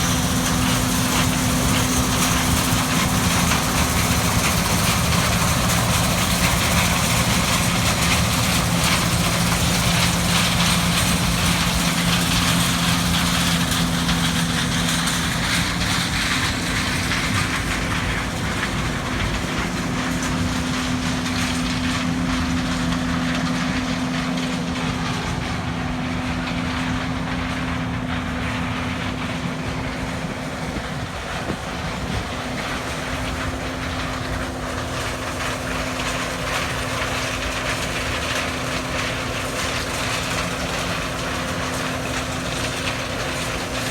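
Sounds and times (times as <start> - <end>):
clattering rumble of machinery: 0.0 - 43.9
diesel engine drone: 0.0 - 43.9.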